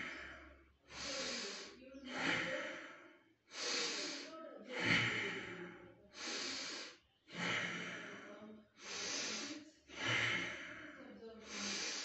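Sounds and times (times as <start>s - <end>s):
man breathing deeply: 0.0s - 12.0s.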